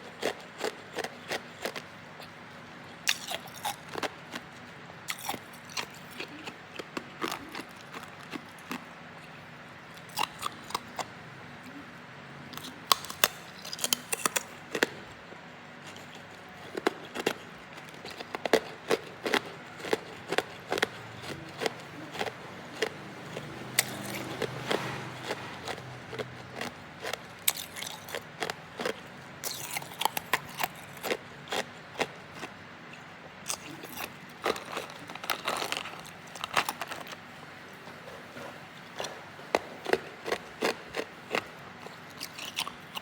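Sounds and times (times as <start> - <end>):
ice being chewed: 0.0 - 11.8, 12.5 - 43.0.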